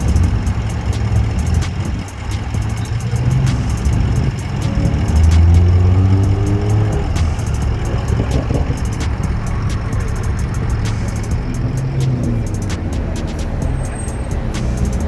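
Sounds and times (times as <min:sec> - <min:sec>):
car engines running: 0:00.0 - 0:15.0
deep exhaust note revving: 0:00.0 - 0:15.0.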